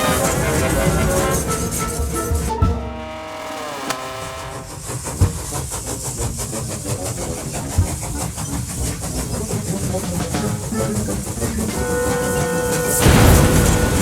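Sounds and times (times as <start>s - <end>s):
steam train chuffing: 0.0s - 14.0s.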